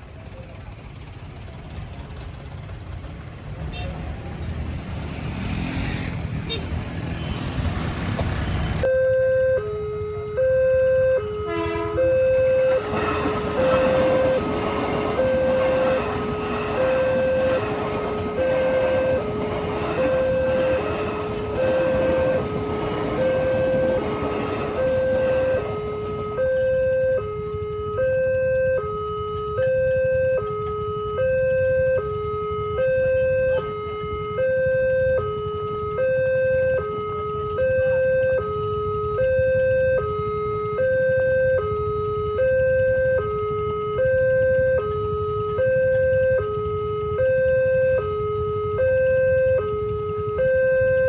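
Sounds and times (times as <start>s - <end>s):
two-tone crossing alarm: 8.8s - 51.0s.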